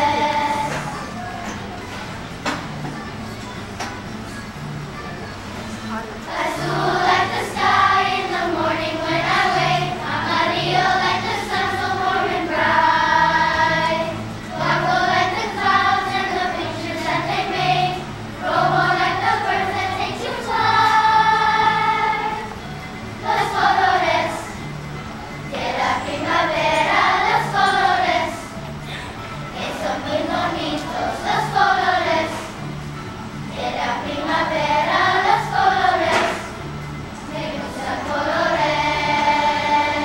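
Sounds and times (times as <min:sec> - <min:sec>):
children's choir singing: 0:00.0 - 0:40.0.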